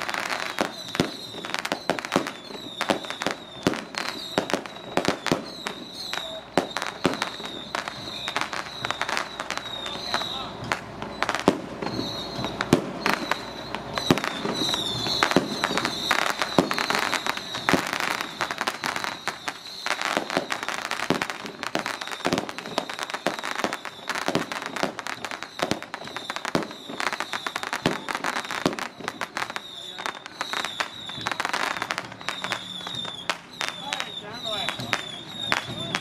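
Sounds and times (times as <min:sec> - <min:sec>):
firecrackers going off: 0:00.0 - 0:36.0.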